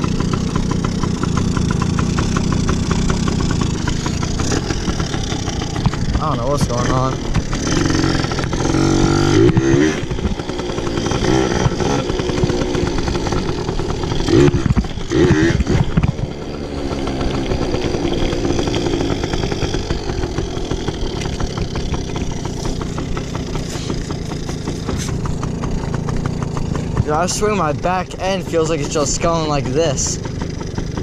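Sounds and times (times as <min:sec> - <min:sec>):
motorbike engine revving: 0:00.0 - 0:31.0.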